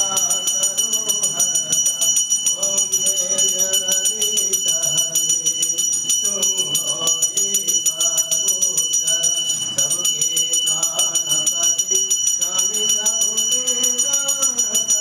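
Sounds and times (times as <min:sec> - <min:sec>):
bell ringing rapidly: 0:00.0 - 0:15.0
devotional singing: 0:00.0 - 0:15.0.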